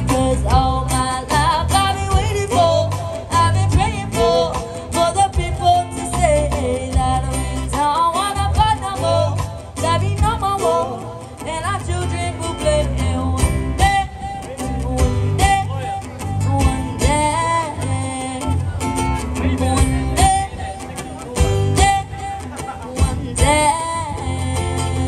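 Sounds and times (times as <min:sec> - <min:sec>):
bass guitar: 0:00.0 - 0:25.0
strummed acoustic guitar: 0:00.0 - 0:25.0.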